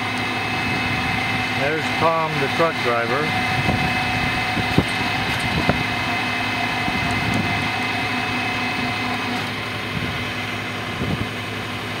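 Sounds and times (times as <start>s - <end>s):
engine and winch humming: 0.0s - 12.0s.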